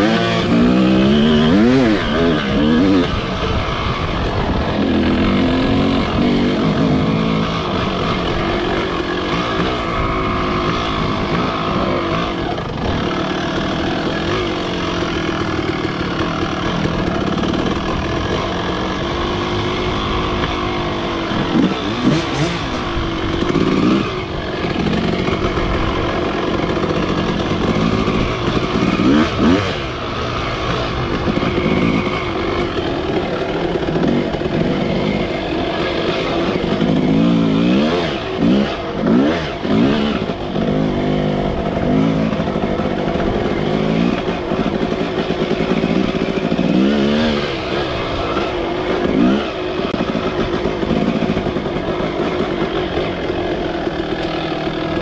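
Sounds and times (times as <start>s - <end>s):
two-stroke dirt bike engine revving: 0.0s - 55.0s.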